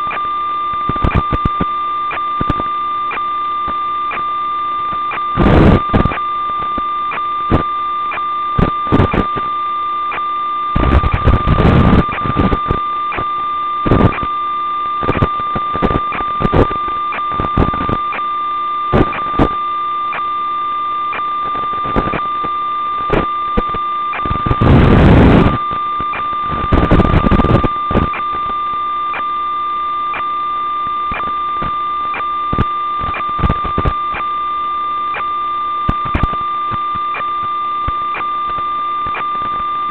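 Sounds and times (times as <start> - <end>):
crackling static bursts: 0.0 - 39.9
electronic buzz with high whine: 0.0 - 39.9.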